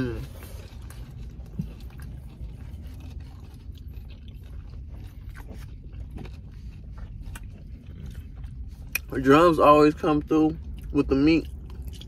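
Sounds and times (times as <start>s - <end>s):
chewing chicken wing: 0.0s - 12.0s
low steady hum: 0.0s - 12.0s.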